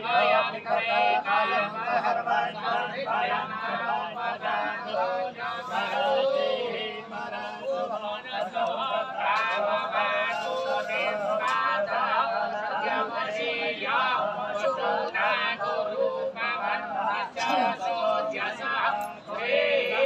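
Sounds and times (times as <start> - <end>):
many voices singing and chanting: 0.0 - 20.0.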